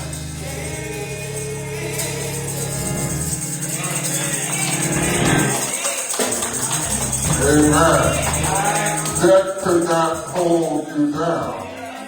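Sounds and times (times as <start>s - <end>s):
band sustaining chords: 0.0s - 10.4s
people singing: 0.0s - 12.0s
tambourine shaking: 0.0s - 12.0s.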